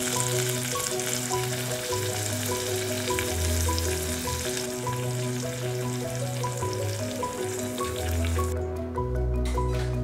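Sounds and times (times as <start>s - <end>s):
frying sizzle: 0.0s - 8.6s
light background music: 0.0s - 10.0s.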